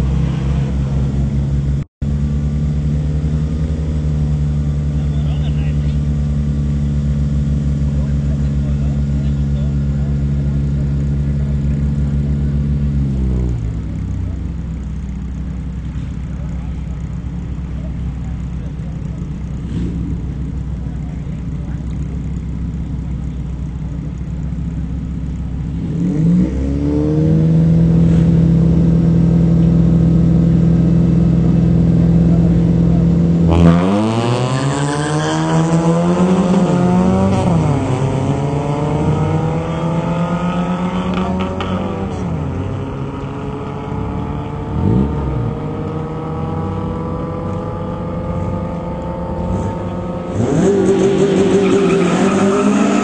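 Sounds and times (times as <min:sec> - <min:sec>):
drag racing engines revving: 0:00.0 - 0:53.0.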